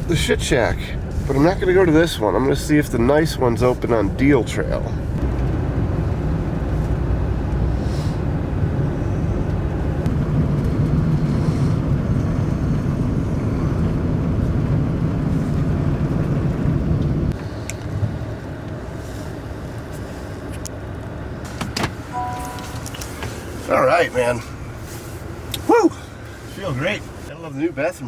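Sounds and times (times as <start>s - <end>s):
car engine and tyre rumble: 0.0s - 28.0s.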